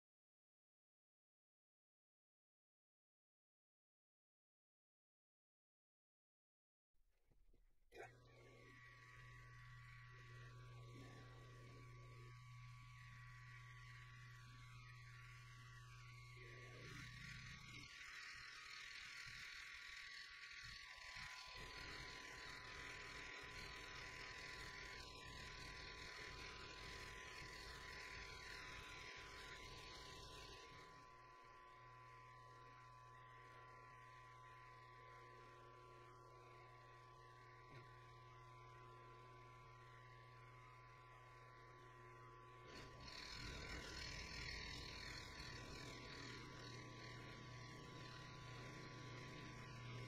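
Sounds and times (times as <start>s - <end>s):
milling spindle whirring: 7.9s - 50.0s.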